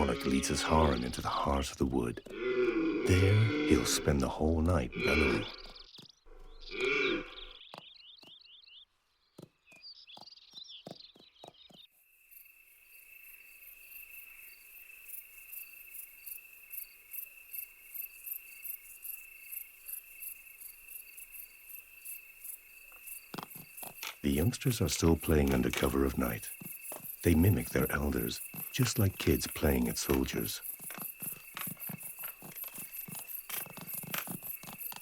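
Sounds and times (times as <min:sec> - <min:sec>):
crickets chirping: 0:00.0 - 0:07.7, 0:11.8 - 0:35.0.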